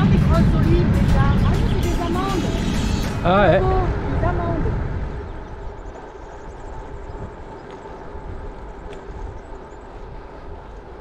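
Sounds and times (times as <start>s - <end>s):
bicycle road noise: 0.0s - 11.0s
wind rumble on microphone: 0.0s - 11.0s.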